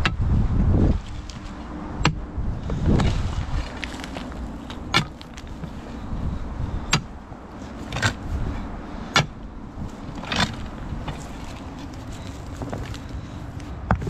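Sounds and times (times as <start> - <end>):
low scraping and handling noise: 0.0 - 14.0.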